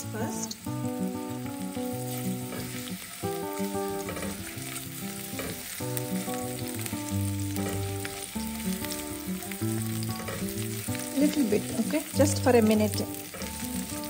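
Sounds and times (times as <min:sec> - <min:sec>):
garlic sizzling in hot oil: 0:00.0 - 0:14.0
spatula stirring in pan: 0:01.4 - 0:14.0.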